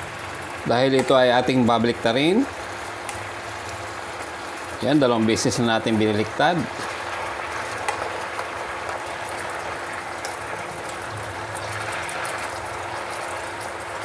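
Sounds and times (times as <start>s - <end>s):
sauce bubbling in a pan: 0.0s - 14.0s.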